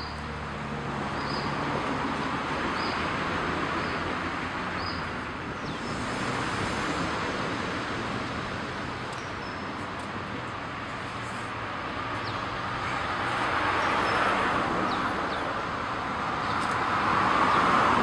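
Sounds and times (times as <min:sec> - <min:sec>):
steady traffic hum: 0:00.0 - 0:18.0
vehicle passing: 0:00.2 - 0:09.1, 0:10.3 - 0:18.0.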